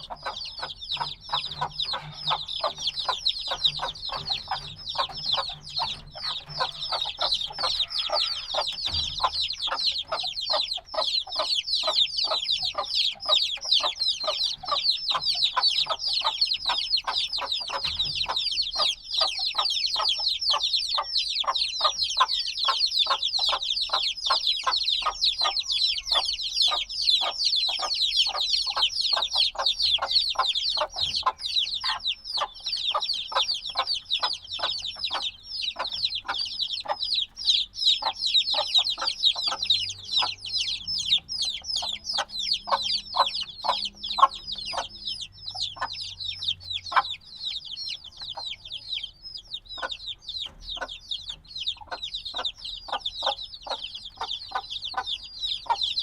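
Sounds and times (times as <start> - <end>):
chicks cheeping: 0.0 - 56.0.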